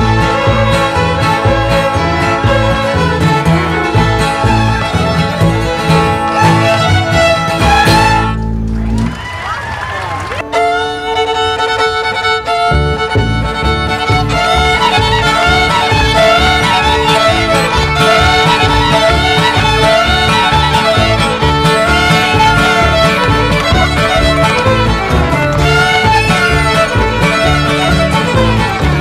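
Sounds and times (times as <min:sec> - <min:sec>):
fiddles playing melody: 0:00.0 - 0:08.8, 0:10.4 - 0:29.0
acoustic guitar rhythm: 0:00.0 - 0:09.1, 0:10.4 - 0:29.0
upright bass: 0:00.0 - 0:09.2, 0:12.5 - 0:29.0.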